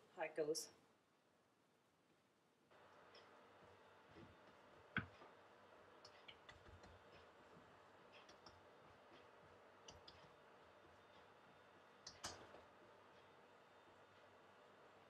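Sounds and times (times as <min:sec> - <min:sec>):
low room hiss: 0:00.0 - 0:15.0.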